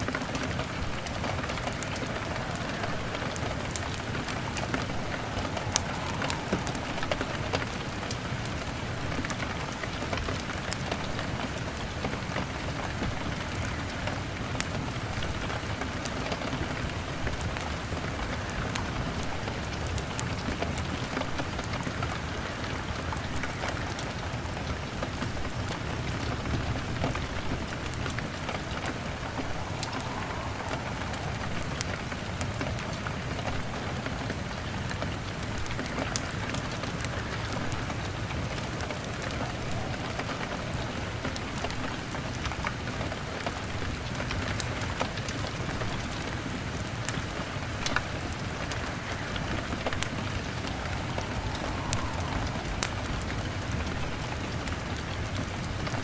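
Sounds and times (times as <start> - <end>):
rain on window glass: 0.0 - 56.0
wood fire crackling: 0.0 - 56.0.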